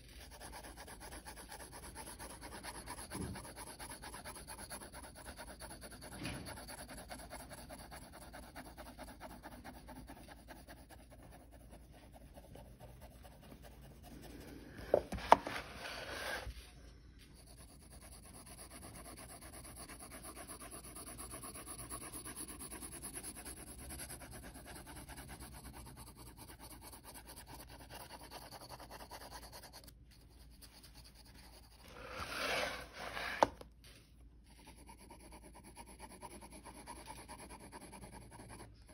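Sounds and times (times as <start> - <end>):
pencil scratching on paper: 0.0 - 16.6, 17.2 - 33.6, 34.4 - 38.9.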